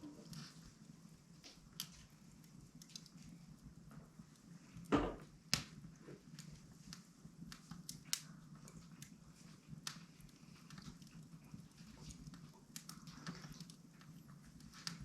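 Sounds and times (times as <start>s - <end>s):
fire snaps and pops: 0.0s - 15.0s
wood fire crackling: 0.0s - 15.0s.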